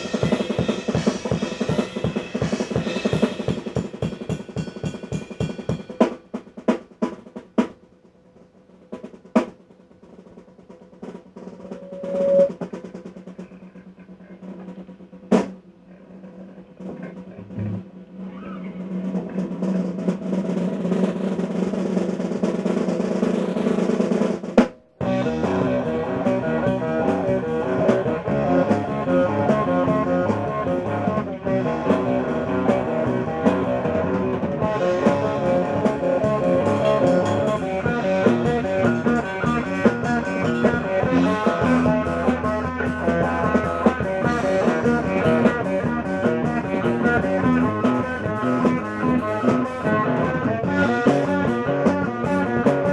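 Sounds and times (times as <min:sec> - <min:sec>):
rock drum solo: 0:00.0 - 0:08.0, 0:08.6 - 0:15.6, 0:16.3 - 0:52.9.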